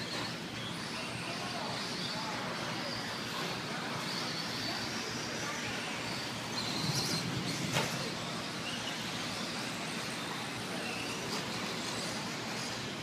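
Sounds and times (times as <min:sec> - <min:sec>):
rc trucks racing: 0:00.0 - 0:13.0.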